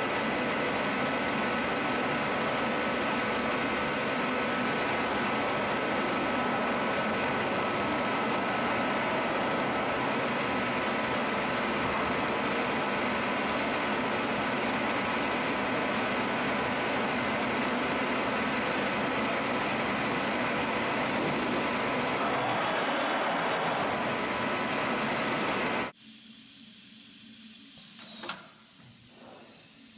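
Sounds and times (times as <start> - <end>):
router machine running: 0.0 - 25.9
thin steady whine: 0.0 - 29.9.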